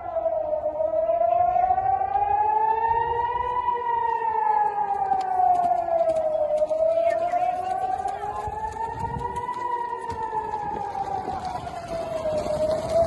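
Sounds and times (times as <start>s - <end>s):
air raid siren wailing: 0.0s - 13.0s.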